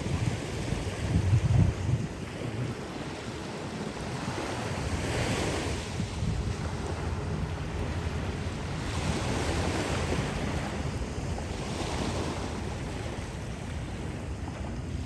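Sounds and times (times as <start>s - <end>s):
small waves washing onto shore: 0.0s - 15.0s.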